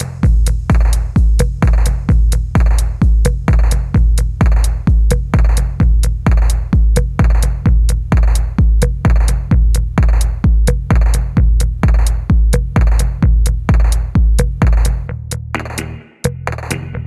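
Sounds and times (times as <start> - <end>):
electronic music with drum-machine beat: 0.0 - 17.0.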